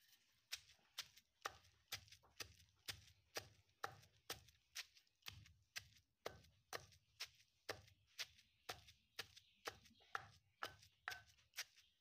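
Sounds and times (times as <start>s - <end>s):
pestle pounding in stone mortar: 0.5s - 12.0s.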